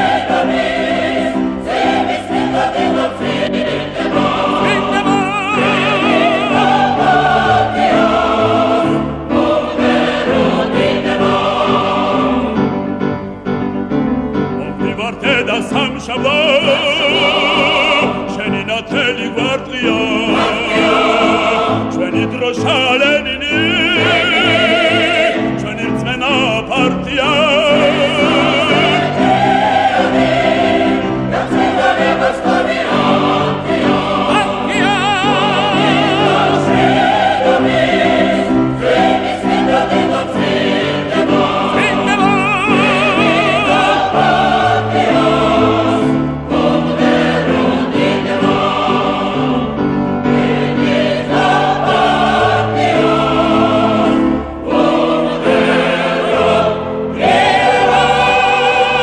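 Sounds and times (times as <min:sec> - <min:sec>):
choir singing: 0:00.0 - 0:59.0
orchestra playing: 0:00.0 - 0:59.0.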